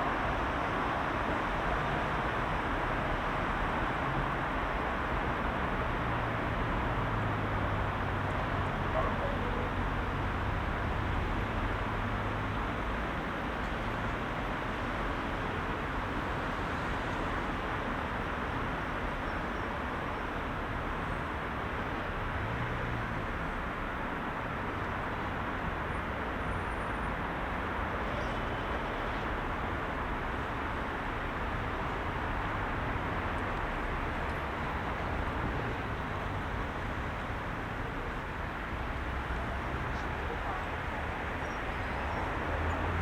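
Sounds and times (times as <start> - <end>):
heavy city road traffic: 0.0 - 43.0.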